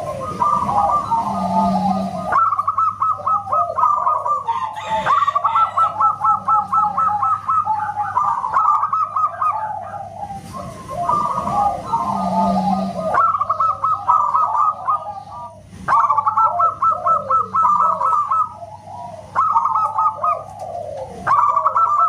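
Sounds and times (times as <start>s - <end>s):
doves cooing: 0.0s - 22.0s.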